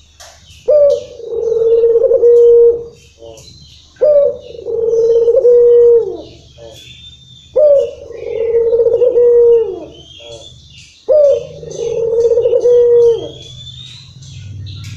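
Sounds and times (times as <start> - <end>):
small birds chirping: 0.0 - 14.9
dove cooing: 0.6 - 14.2.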